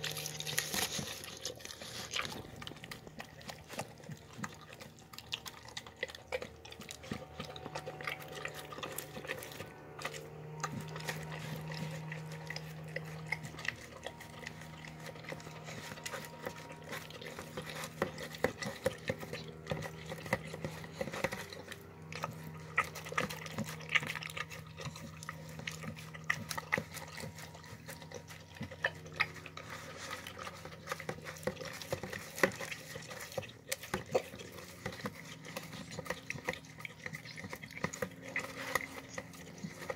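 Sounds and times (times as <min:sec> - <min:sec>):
dog licking and chewing: 0:00.0 - 0:39.9.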